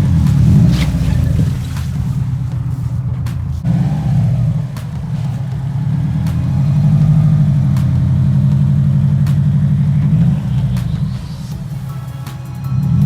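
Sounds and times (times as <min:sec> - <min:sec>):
car engine at low revs: 0:00.0 - 0:13.0.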